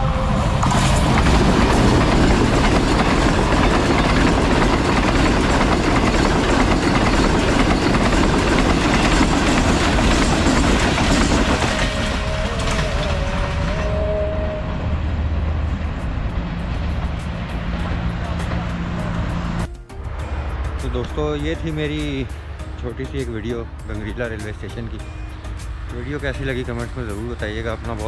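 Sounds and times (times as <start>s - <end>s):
train passing at speed: 0.0s - 28.0s.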